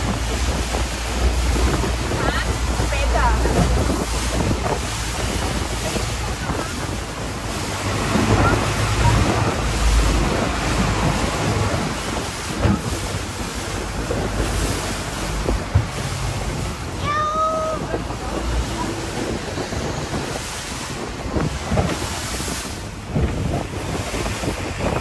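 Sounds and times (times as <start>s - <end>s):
boat engine rumble: 0.0s - 25.0s
water rushing past boat hull: 0.0s - 25.0s
wind buffeting microphone: 0.0s - 25.0s.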